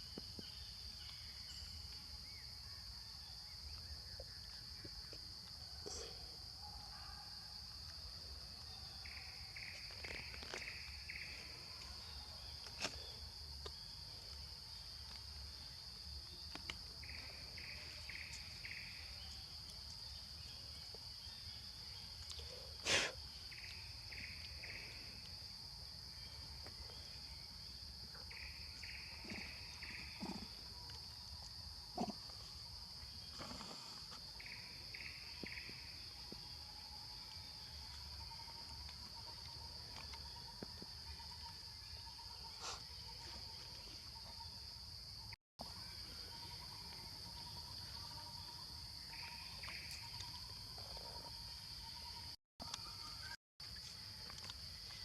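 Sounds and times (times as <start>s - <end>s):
insect chorus drone: 0.0s - 55.0s
insect quick chirps: 0.0s - 55.0s.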